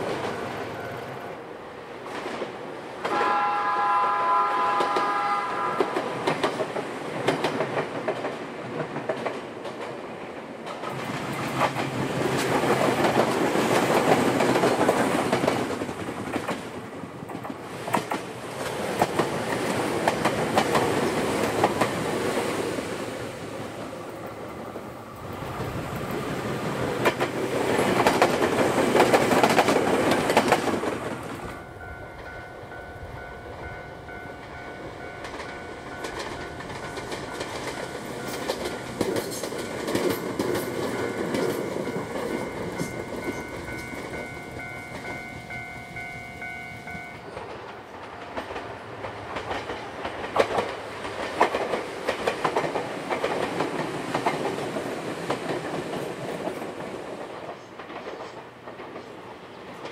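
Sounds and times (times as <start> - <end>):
train wheels clattering over rails: 4.7 - 32.4, 33.6 - 59.9.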